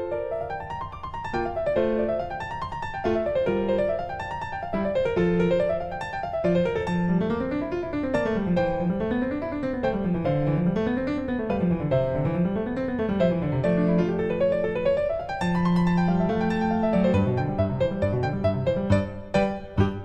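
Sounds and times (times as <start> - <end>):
piano arpeggios: 0.0 - 20.0.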